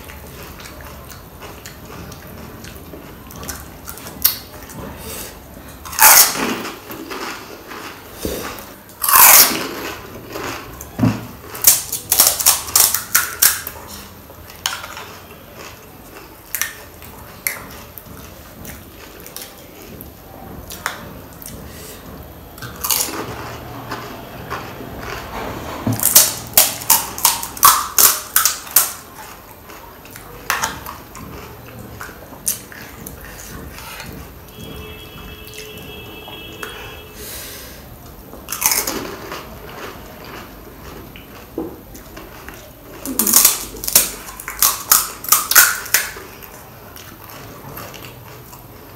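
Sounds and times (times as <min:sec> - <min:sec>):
quiet chewing: 0:00.0 - 0:37.3, 0:37.9 - 0:48.9.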